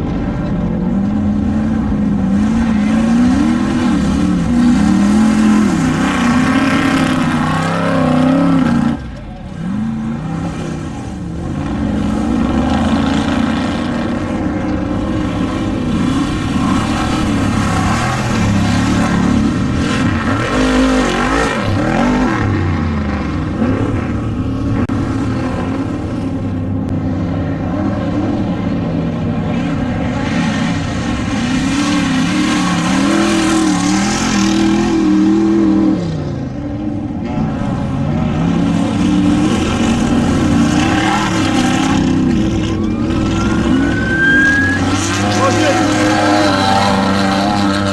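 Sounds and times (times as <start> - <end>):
race vehicle engines revving: 0.0 - 47.9.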